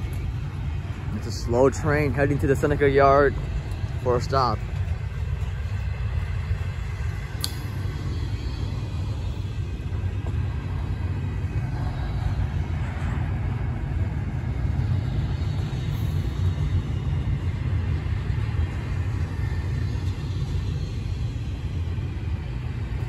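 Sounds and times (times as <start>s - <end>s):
freight train rumbling on rails: 0.0s - 23.0s.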